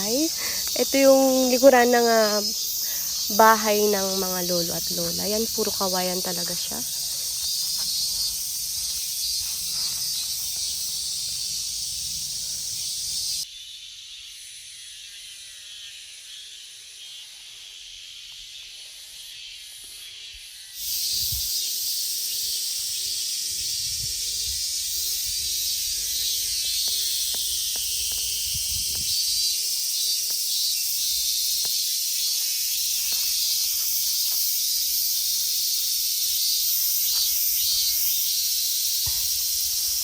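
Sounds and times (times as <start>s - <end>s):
cicadas buzzing: 0.0s - 40.0s.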